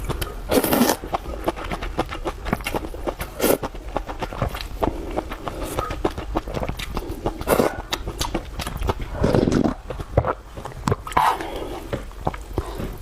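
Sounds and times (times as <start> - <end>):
chewing with wet smacks: 0.0 - 13.0.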